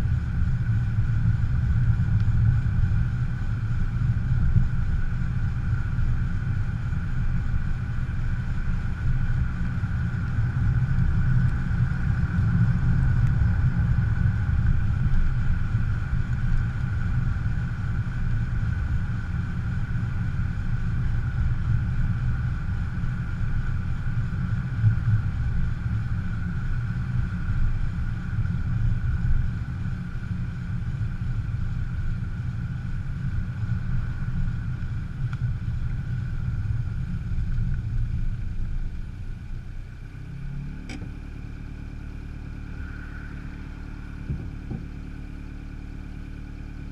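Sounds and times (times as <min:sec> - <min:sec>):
faint wheel whine: 0:00.0 - 0:46.9
road and tyre rumble: 0:00.0 - 0:46.9.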